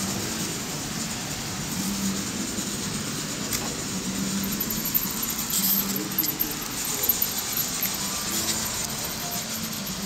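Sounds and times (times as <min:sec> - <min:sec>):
model train rolling on track: 0:00.0 - 0:10.0.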